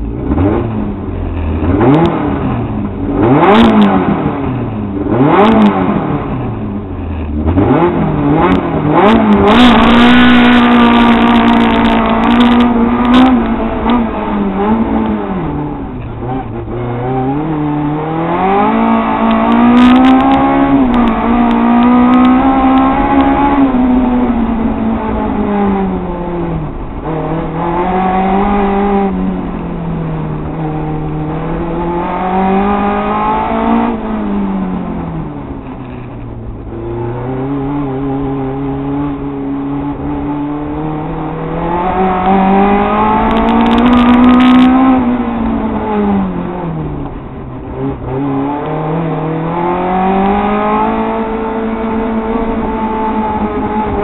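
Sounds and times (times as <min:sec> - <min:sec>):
race car engine revving through gears: 0:00.0 - 0:54.0.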